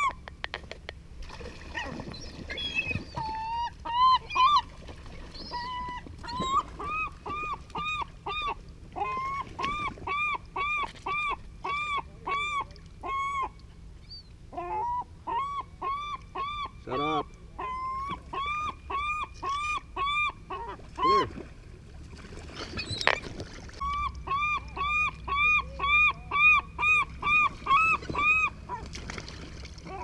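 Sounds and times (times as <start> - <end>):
gull calling: 1.8 - 4.8, 5.4 - 21.4, 22.8 - 29.0.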